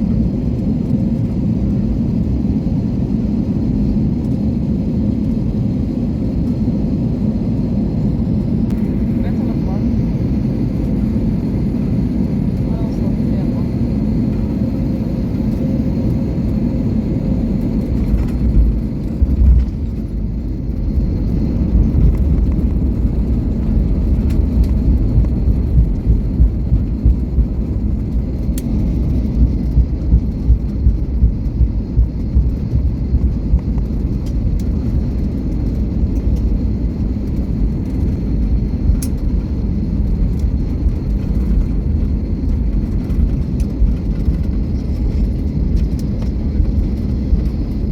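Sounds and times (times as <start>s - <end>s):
low rumble of engines and wheels: 0.0s - 47.9s.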